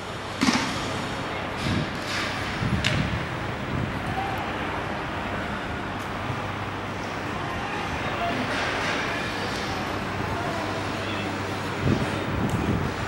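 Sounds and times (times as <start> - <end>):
street ambience: 0.0 - 13.0.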